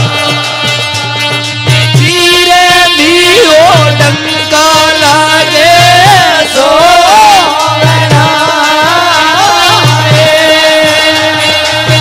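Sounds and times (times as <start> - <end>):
man singing ornamented melody: 0.0 - 12.0.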